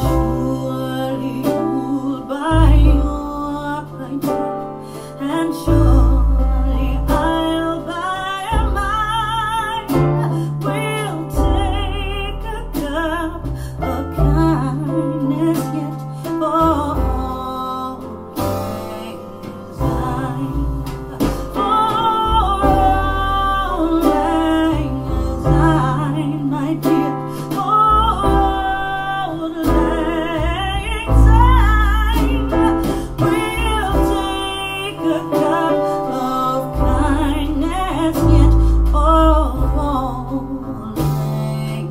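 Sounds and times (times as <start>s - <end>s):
pop song over speakers: 0.0s - 41.9s.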